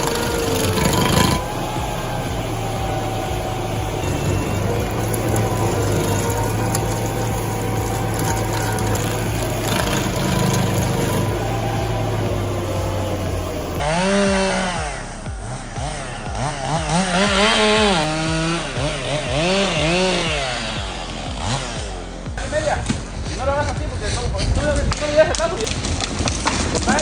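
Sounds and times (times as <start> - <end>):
chainsaw engine revving: 0.0 - 22.4
steady machine drone: 0.0 - 22.5.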